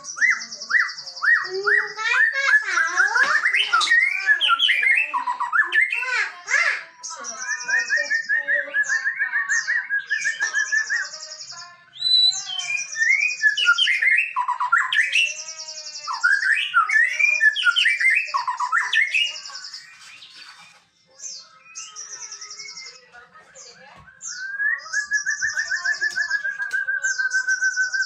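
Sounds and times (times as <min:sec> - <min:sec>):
bird singing trills and whistles: 0:00.0 - 0:28.0.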